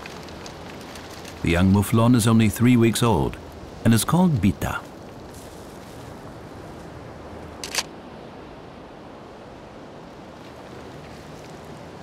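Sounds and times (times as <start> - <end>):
soft outdoor ambience hiss: 0.0 - 12.0.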